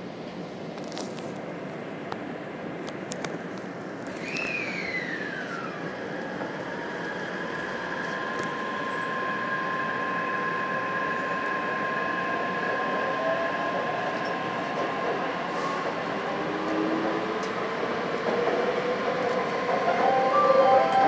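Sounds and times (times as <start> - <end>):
train running noise: 0.0 - 21.0
train electric whine: 4.0 - 21.0.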